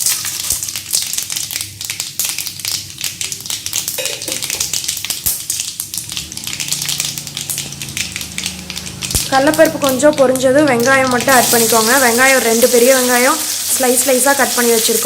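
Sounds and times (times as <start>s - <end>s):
seeds frying in hot oil: 0.0s - 15.0s.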